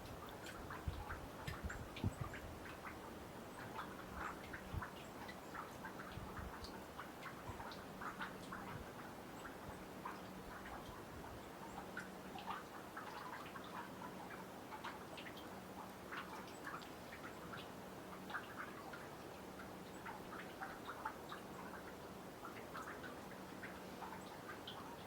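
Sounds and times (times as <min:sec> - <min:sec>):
meltwater dripping into pond: 0:00.0 - 0:25.0.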